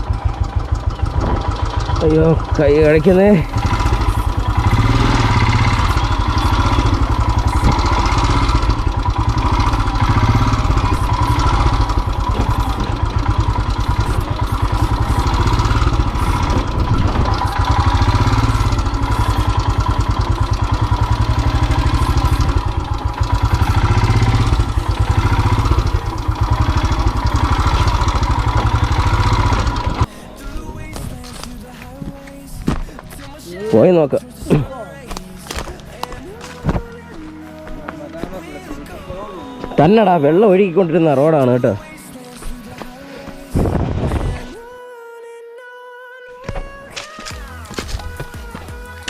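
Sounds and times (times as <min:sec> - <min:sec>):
motorcycle engine thumping: 0:00.0 - 0:33.4, 0:34.4 - 0:38.5, 0:46.5 - 0:49.0.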